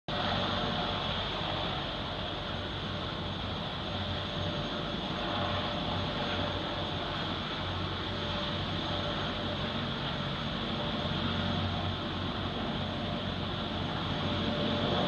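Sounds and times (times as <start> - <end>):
faint steady tone: 0.1 - 15.0
helicopter engine and rotor: 0.1 - 15.0.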